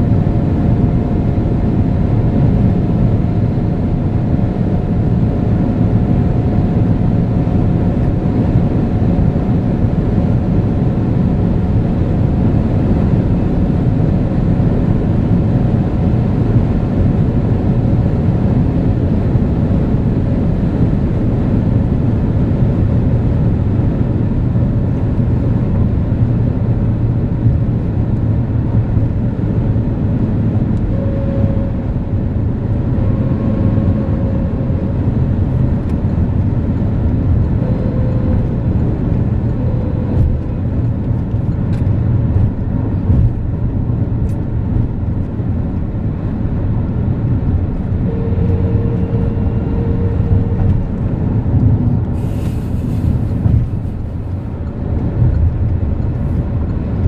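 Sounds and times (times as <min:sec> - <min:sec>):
car cabin rumble while cruising: 0:00.0 - 0:57.0.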